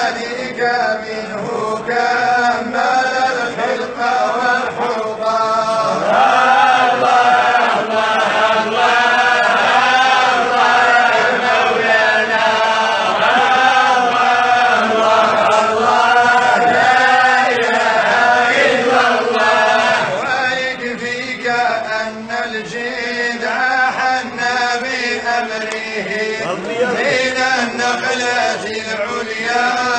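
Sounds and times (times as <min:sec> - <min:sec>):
melodic vocal chanting: 0:00.0 - 0:29.9.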